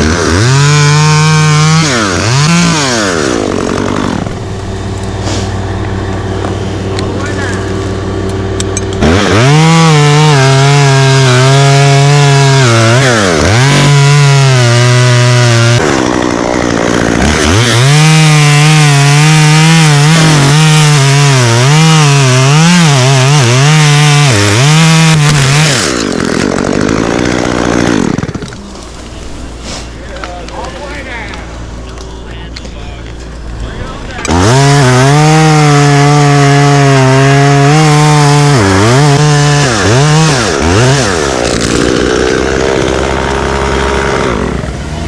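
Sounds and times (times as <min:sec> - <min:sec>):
chainsaw cutting wood: 0:00.0 - 0:30.0, 0:34.2 - 0:45.0.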